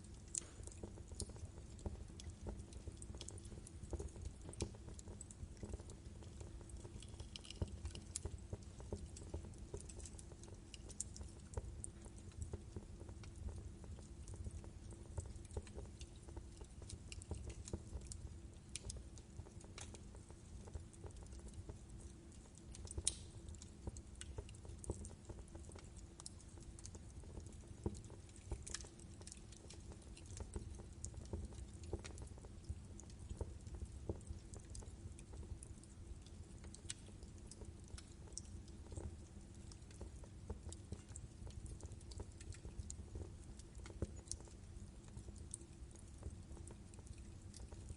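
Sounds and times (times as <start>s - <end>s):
wood logs crackling in fireplace: 0.0s - 47.9s.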